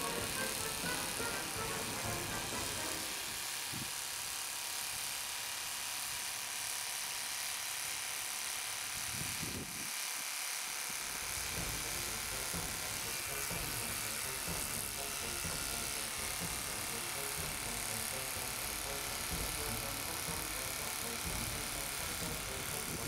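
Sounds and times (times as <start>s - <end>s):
rotary hammer pounding: 0.0s - 6.6s, 10.6s - 23.0s.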